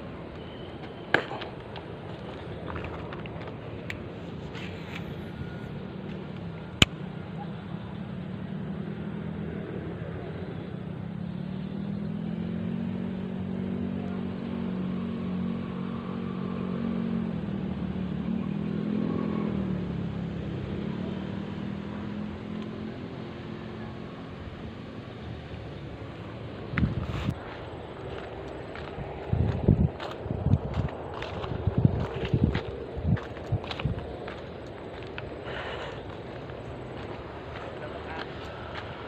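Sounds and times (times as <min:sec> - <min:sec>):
distant motor engine humming: 0:00.0 - 0:39.0.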